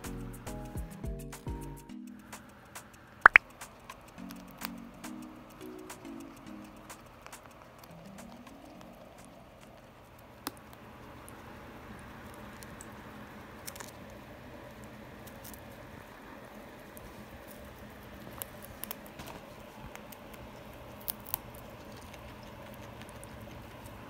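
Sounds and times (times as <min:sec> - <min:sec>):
guinea pig crunching food: 0:00.0 - 0:24.0.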